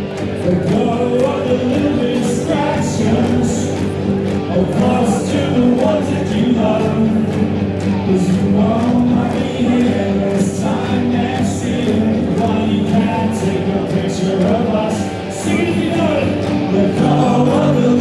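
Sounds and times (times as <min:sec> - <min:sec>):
person singing: 0:00.0 - 0:18.0
rock band playing live: 0:00.0 - 0:18.0.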